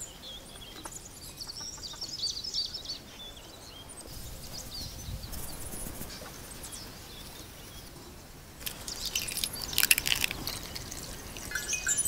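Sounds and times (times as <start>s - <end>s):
small birds chirping: 0.0s - 8.0s, 8.6s - 12.0s.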